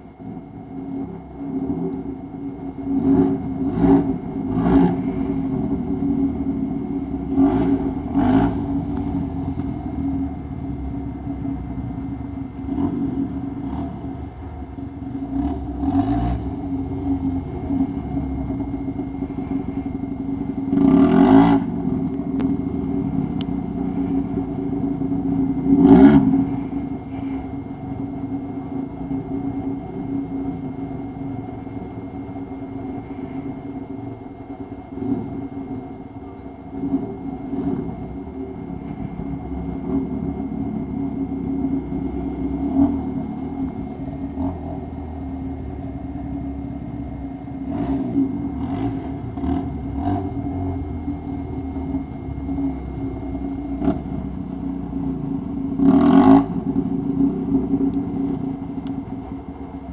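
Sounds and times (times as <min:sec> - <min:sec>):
atv engine revving: 0:00.2 - 0:34.3, 0:36.7 - 0:59.9.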